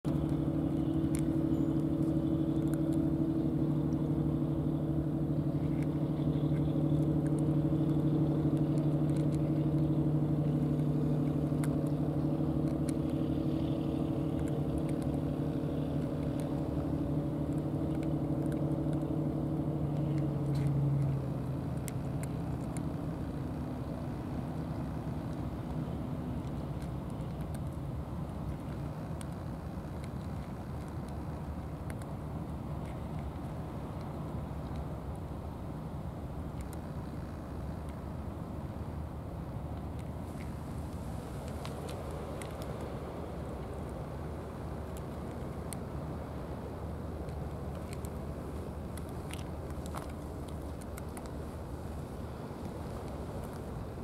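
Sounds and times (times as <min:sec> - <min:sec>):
engine humming: 0:00.0 - 0:54.0
cat crunching dry kibble: 0:00.1 - 0:54.0.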